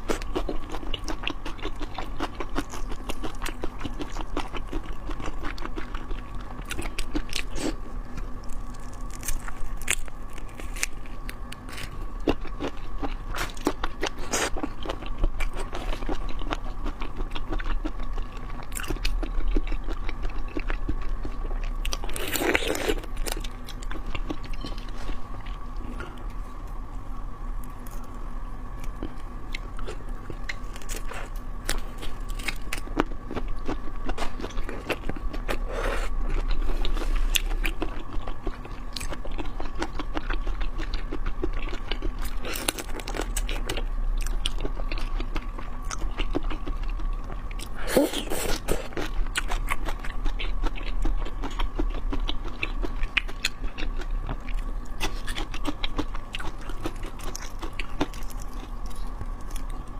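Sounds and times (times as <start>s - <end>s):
chewing and crunching prawns: 0.0s - 26.4s, 27.6s - 59.9s.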